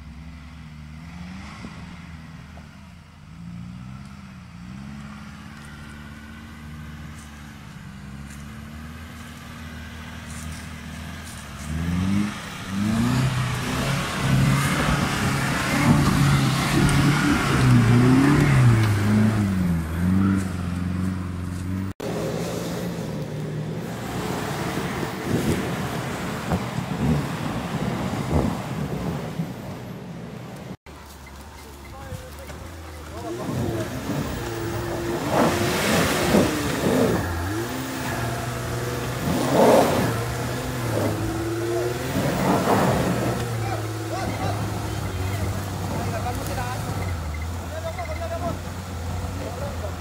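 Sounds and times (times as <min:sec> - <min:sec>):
another engine running steadily: 0:00.0 - 0:50.0
off-road engine revving: 0:00.0 - 0:50.0.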